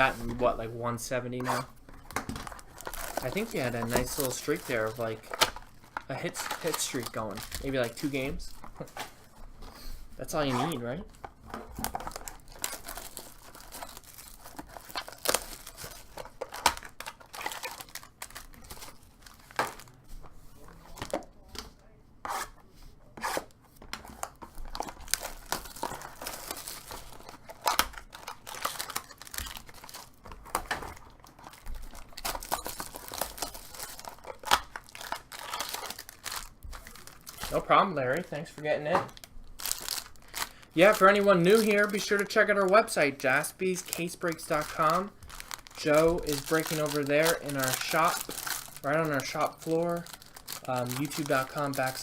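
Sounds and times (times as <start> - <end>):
wrappers tearing and crinkling: 1.5 - 9.0, 10.2 - 20.0, 24.1 - 52.0.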